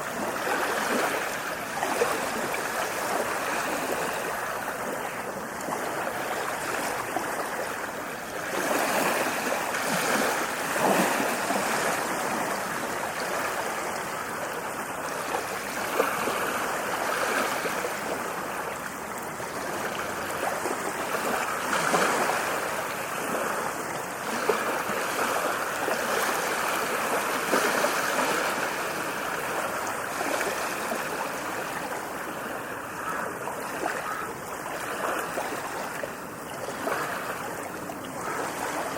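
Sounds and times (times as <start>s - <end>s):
ocean waves on shore: 0.0s - 38.9s.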